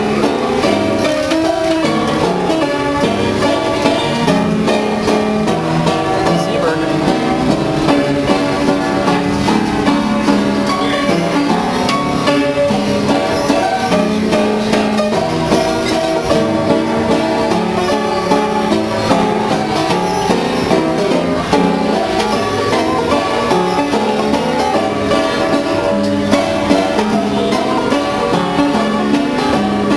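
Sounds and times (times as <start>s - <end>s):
player piano playing: 0.0s - 29.9s.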